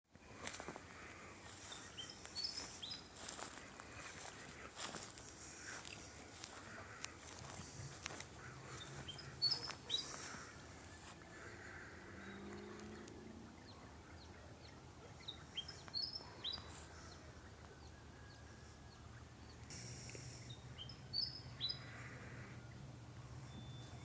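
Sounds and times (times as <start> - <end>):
birds chirping: 0.2 - 24.0.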